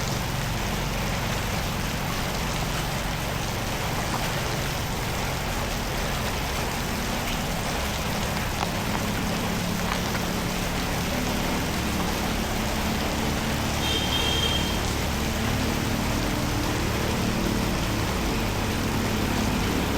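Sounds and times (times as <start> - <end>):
faint low engine hum: 0.0 - 19.9
water rushing: 0.0 - 19.9.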